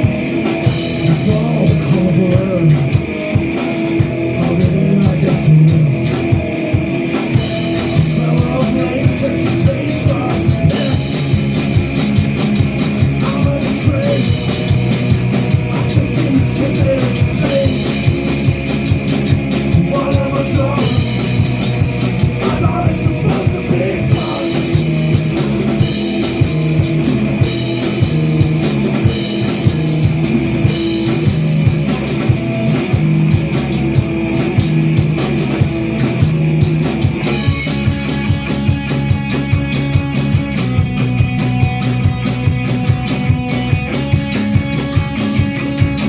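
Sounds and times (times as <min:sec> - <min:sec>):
punk rock band playing live: 0:00.0 - 0:46.0
steady drum beat: 0:00.0 - 0:46.0.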